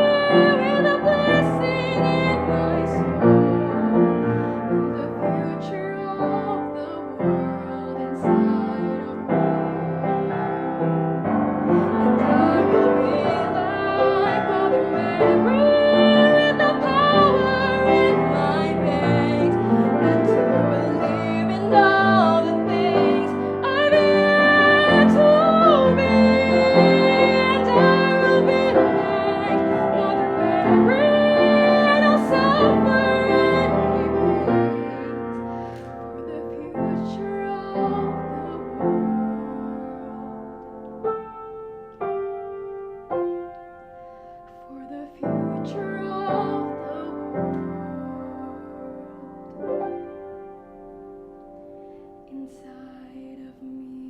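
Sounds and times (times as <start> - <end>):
piano: 0.0 - 54.0.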